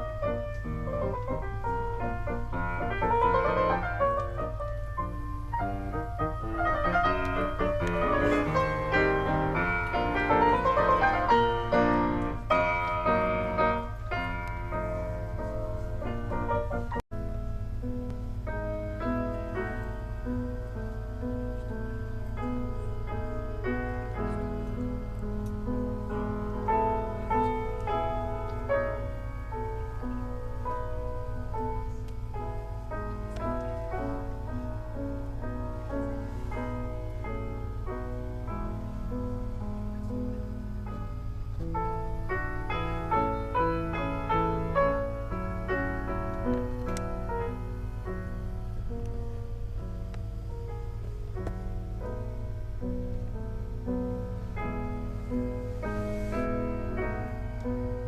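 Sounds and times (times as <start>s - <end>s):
solo piano classical piece: 0.0s - 58.0s
steady low hum: 0.0s - 58.0s.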